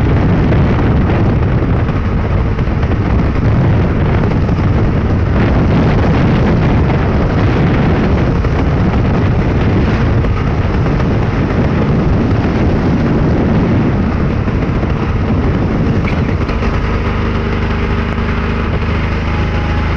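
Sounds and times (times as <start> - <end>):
vehicle engine hum: 0.0 - 19.9
wind buffeting microphone: 0.0 - 19.9.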